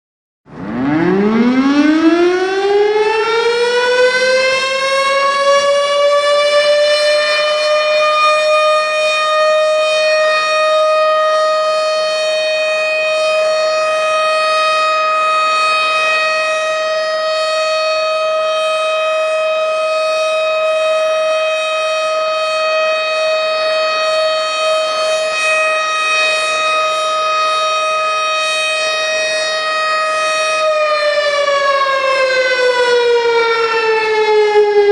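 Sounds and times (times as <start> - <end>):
tornado warning siren wailing: 0.5 - 34.9.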